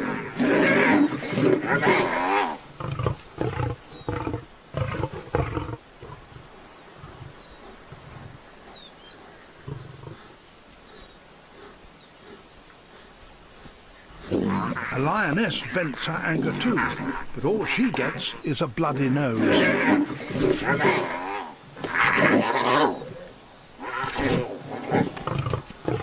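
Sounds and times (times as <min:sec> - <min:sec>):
lions snarling and growling: 0:00.0 - 0:13.2, 0:14.1 - 0:18.5, 0:19.2 - 0:26.0
high insect trill: 0:00.0 - 0:26.0.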